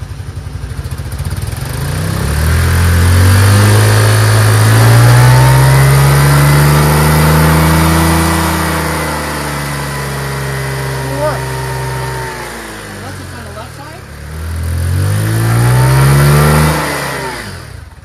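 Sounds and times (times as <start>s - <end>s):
motor scooter engine revving: 0.0s - 18.0s.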